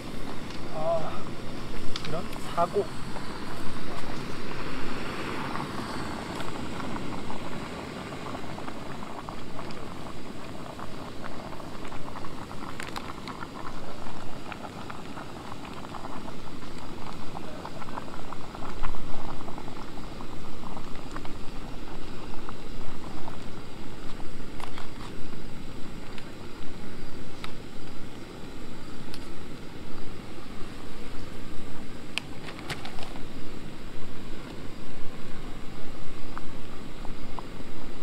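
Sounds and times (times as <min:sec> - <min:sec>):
small clicks and crackles: 0:00.0 - 0:04.4, 0:05.2 - 0:38.0
water boiling in a pot: 0:00.0 - 0:38.0.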